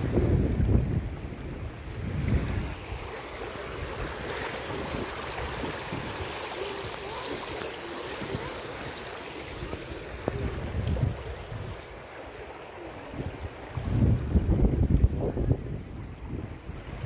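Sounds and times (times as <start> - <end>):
water rushing: 0.0 - 17.0
wind buffeting microphone: 0.0 - 17.0.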